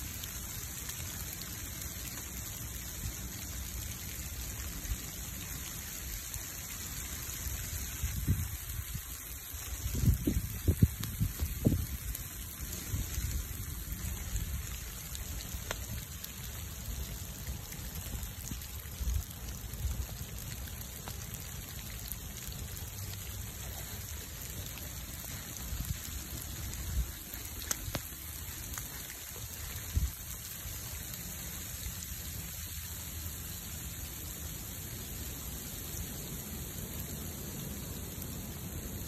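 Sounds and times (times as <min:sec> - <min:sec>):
burning logs popping: 0:00.0 - 0:37.6
rain falling: 0:00.0 - 0:39.0.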